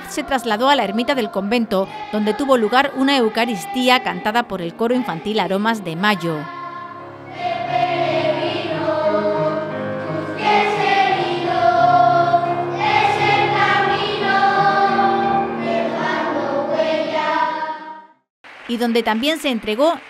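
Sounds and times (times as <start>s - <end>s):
children's choir singing: 0.0s - 18.2s.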